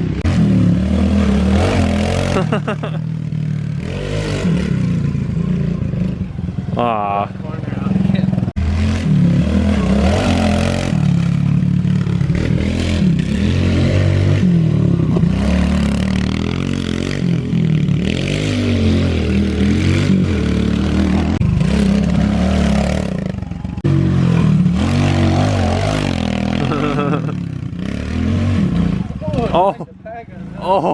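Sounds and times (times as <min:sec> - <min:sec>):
pit bike engine revving: 0:00.0 - 0:29.8.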